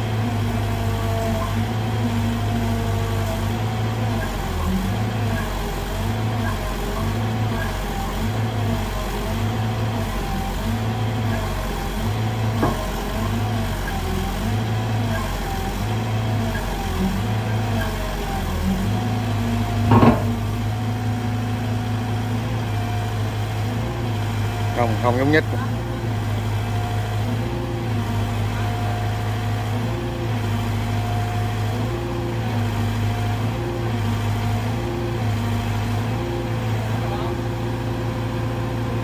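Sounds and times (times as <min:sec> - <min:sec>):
excavator diesel engine straining: 0:00.0 - 0:39.0.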